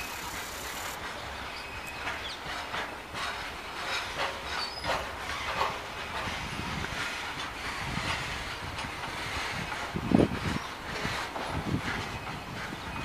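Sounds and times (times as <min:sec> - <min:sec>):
rumble of train wheels on rails: 0:00.0 - 0:13.0
wheels clacking over rail joints: 0:00.0 - 0:13.0.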